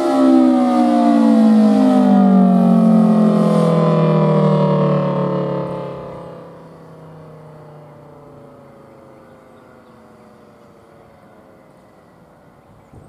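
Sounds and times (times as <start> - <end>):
rotating siren winding down: 0.0 - 12.8.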